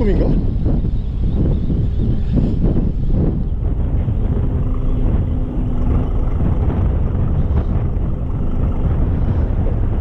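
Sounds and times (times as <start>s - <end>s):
wind buffeting microphone: 0.0s - 10.0s
faint hum: 0.4s - 10.0s.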